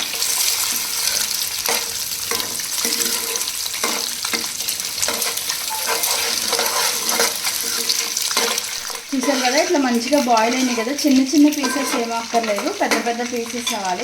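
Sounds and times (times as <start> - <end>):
eggs sizzling in hot oil: 0.0 - 14.0
spatula scraping pot: 0.1 - 14.0.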